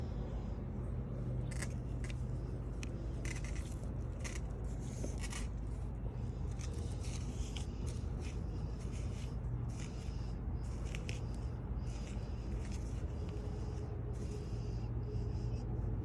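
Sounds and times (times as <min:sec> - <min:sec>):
steady low hum: 0:00.0 - 0:16.0
soil scraping and rustling: 0:01.4 - 0:14.8.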